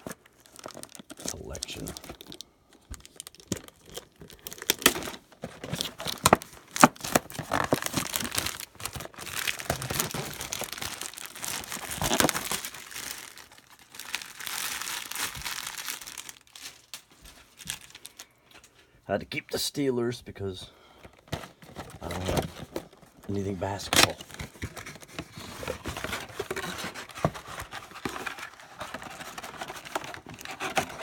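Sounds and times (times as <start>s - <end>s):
plastic wrapper tearing and crinkling: 0.0s - 18.3s, 21.2s - 31.0s.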